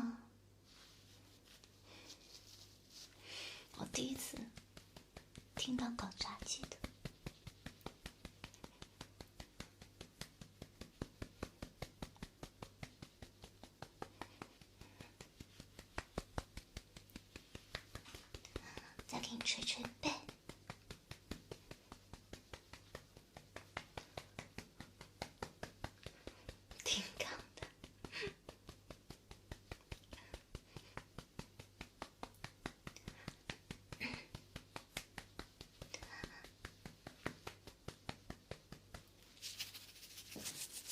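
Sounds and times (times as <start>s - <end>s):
soft massage tapping: 0.7s - 40.9s.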